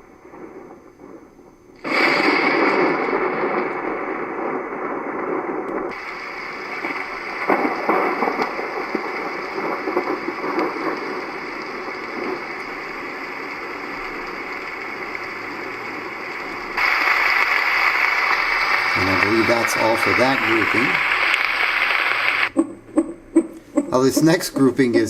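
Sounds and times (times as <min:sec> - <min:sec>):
recorded rain through small speaker: 0:00.0 - 0:25.0.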